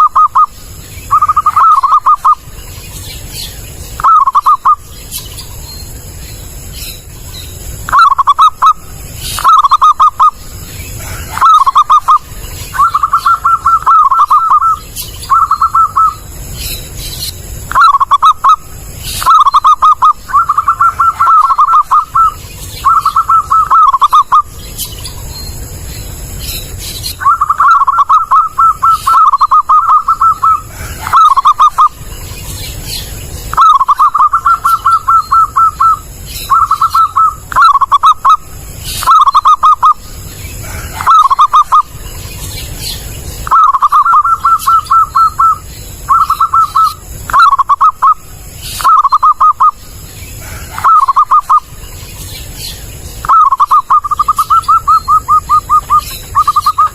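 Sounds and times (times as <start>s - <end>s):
dove cooing: 0.0s - 2.6s, 4.0s - 4.9s, 7.8s - 16.3s, 17.6s - 24.6s, 27.1s - 32.1s, 32.9s - 42.0s, 43.4s - 51.9s, 52.6s - 56.9s.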